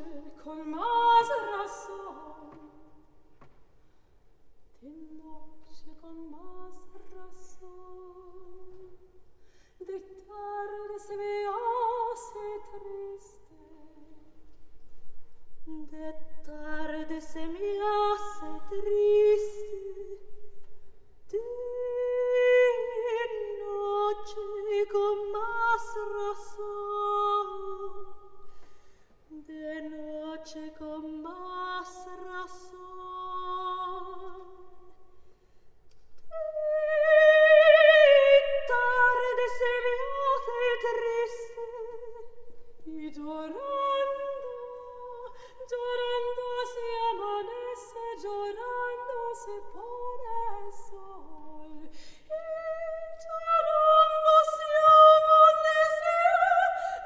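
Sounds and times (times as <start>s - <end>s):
woman singing with vibrato: 0.0s - 3.1s, 4.8s - 9.1s, 9.8s - 14.3s, 15.6s - 20.2s, 21.3s - 28.4s, 29.3s - 35.0s, 36.3s - 57.0s.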